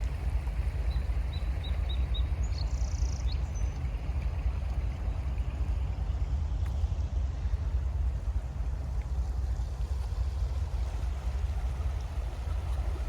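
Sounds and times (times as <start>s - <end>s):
flowing creek: 0.0s - 13.0s.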